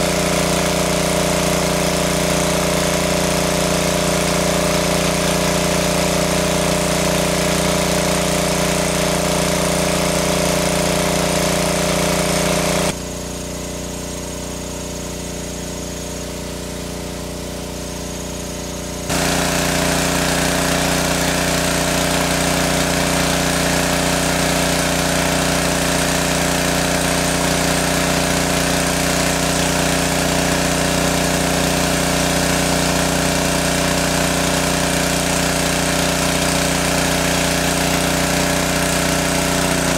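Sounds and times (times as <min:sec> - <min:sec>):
engine-driven water pump running: 0:00.0 - 0:39.9.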